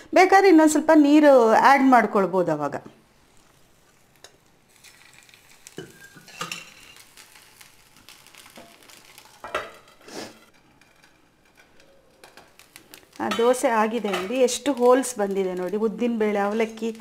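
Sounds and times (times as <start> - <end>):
batter sizzling on griddle: 3.1 - 17.0.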